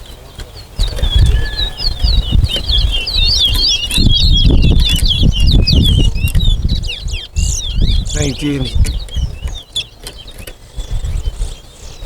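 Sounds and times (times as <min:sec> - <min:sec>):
bird singing swooping chirps: 0:00.0 - 0:12.0.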